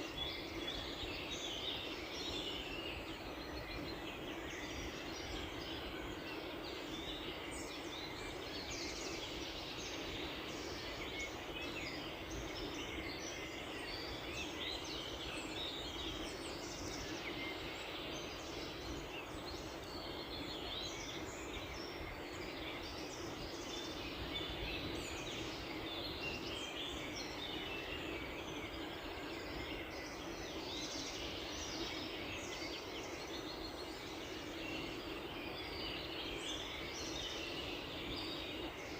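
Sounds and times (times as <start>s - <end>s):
background hiss: 0.0s - 38.9s
small birds chirping and trilling: 0.0s - 38.9s.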